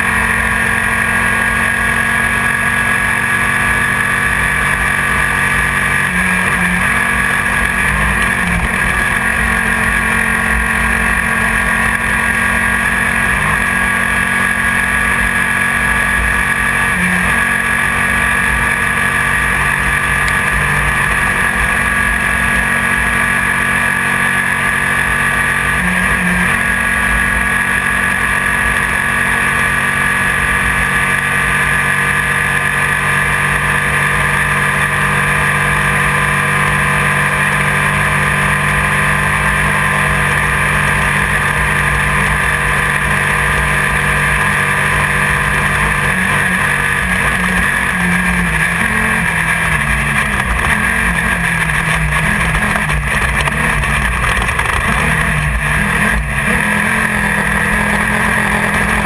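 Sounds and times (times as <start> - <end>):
race car engine under load: 0.0 - 59.0
road and wind noise: 0.0 - 59.0.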